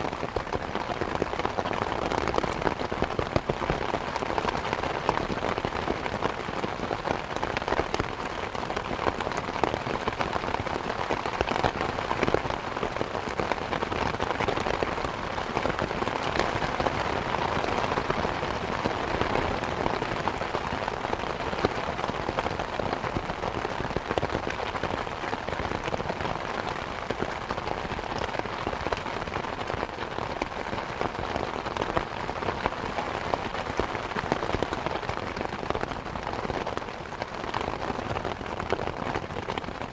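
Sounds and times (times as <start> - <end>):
rain drops ticking on surfaces: 0.0 - 39.9
steady rain wash: 0.0 - 39.9.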